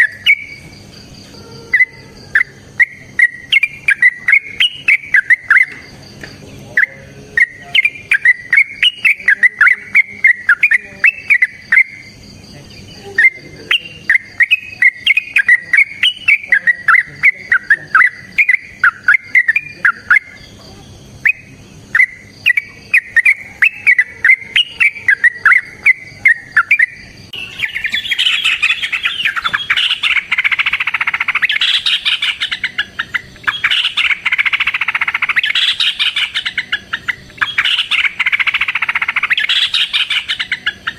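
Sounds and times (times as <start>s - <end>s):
bird singing bubbly phrases: 0.0s - 0.9s, 1.6s - 40.9s
bird rapid chattering song: 0.0s - 40.9s.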